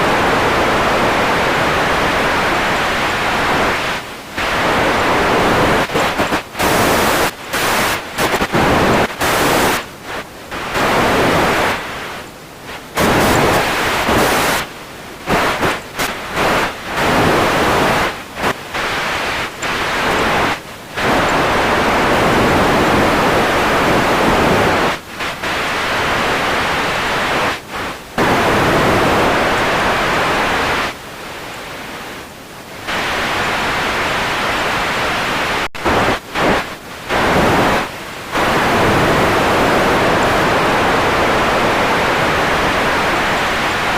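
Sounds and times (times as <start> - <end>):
radio static hiss: 0.0 - 43.9.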